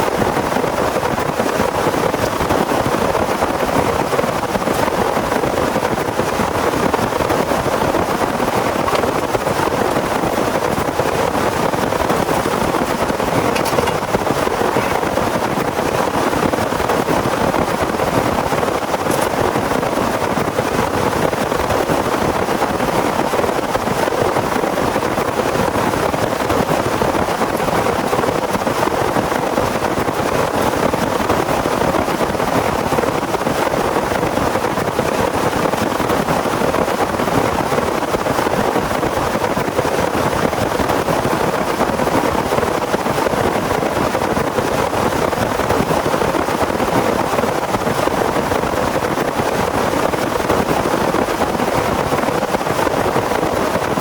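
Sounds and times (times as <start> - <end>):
heavy rain pouring: 0.0 - 43.6.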